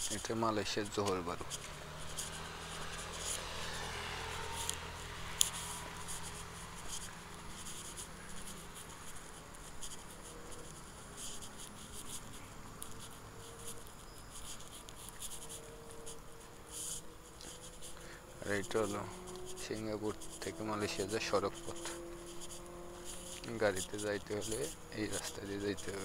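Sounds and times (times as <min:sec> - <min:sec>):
faint outdoor ambience: 0:00.0 - 0:26.0
phone handling scratches and clicks: 0:00.0 - 0:26.0.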